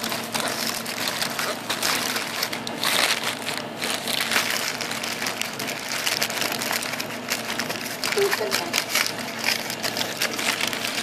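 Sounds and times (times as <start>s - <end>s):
aluminium foil crinkling: 0.0s - 11.0s
plastic bag rustling: 0.0s - 11.0s.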